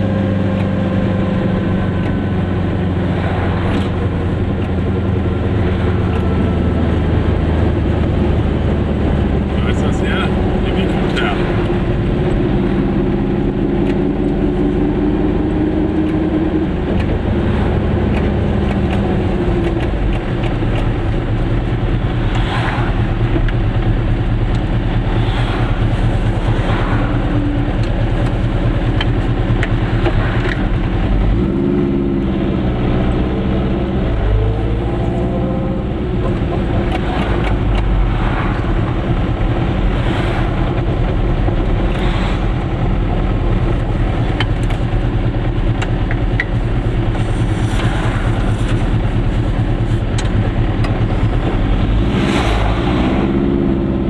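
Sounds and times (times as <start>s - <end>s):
road noise: 0.0s - 54.0s
two-stroke car engine running: 0.0s - 54.0s.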